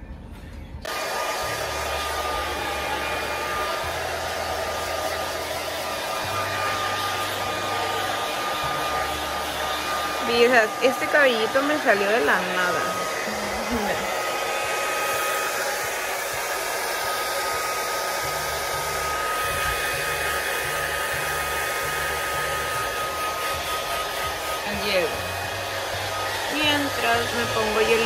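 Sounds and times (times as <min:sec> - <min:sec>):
hair dryer running: 0:00.8 - 0:28.0.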